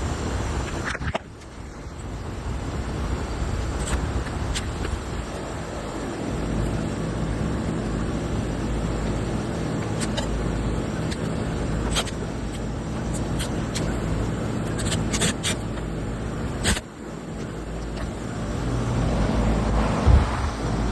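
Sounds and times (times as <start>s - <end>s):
air conditioner humming: 0.0s - 20.9s.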